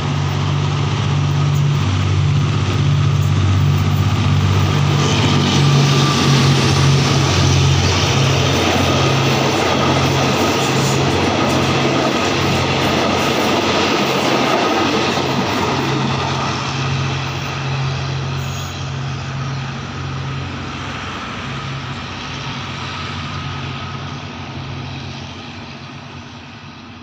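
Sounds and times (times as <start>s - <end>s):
train coaches rolling on rails: 0.0s - 27.0s.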